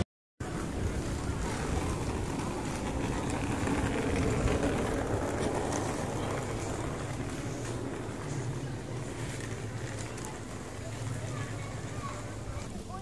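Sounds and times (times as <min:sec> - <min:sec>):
street rumble and hiss: 0:00.4 - 0:13.0.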